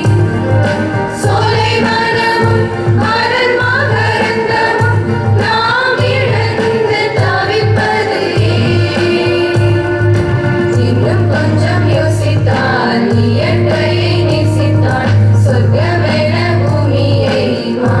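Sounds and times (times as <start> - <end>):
group singing a hymn: 0.0 - 18.0
steady beat accompaniment: 0.0 - 18.0.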